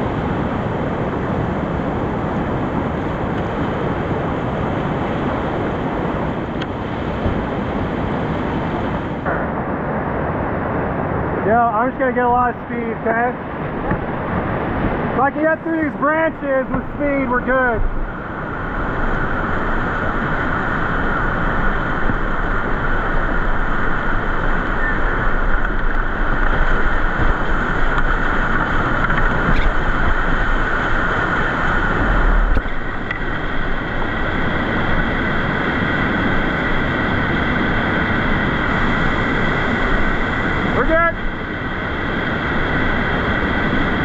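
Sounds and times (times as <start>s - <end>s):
river whitewater rushing: 0.0s - 44.0s.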